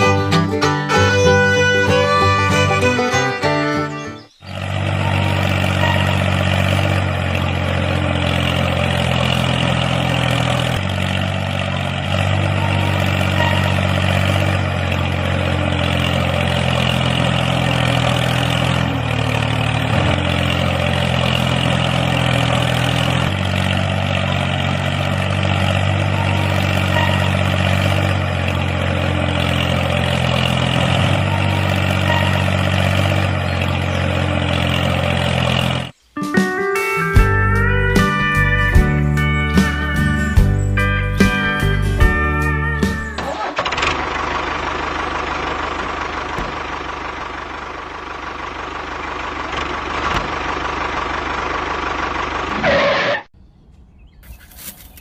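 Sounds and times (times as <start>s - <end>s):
engine running at low speed: 0.0s - 36.0s, 37.2s - 53.3s.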